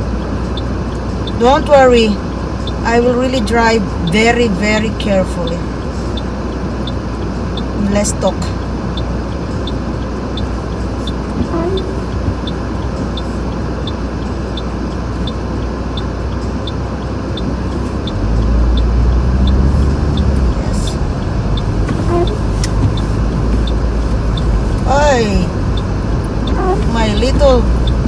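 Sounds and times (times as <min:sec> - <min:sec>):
car road and engine rumble: 0:00.0 - 0:28.0
faint regular ticking: 0:00.0 - 0:28.0.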